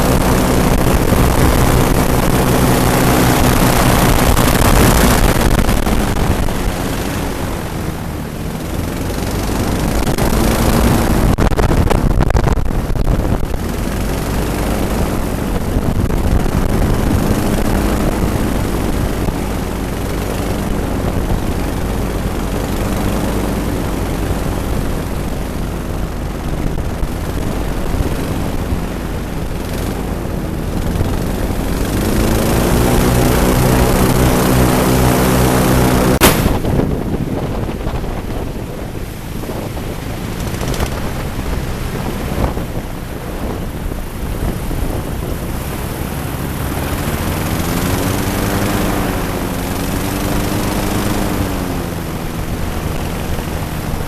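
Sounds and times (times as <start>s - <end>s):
airboat propeller engines: 0.0s - 54.0s
wind buffeting microphone: 0.0s - 54.0s.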